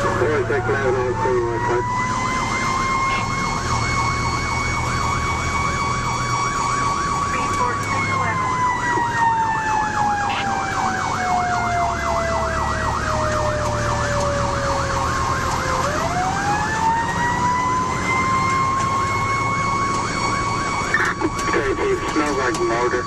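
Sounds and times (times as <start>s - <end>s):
electronic siren yelp: 0.0s - 23.0s
siren wail: 0.0s - 23.0s.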